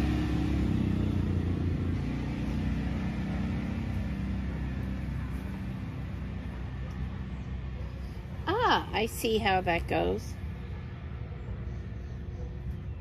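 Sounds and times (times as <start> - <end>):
engine rumbling low: 0.0 - 13.0.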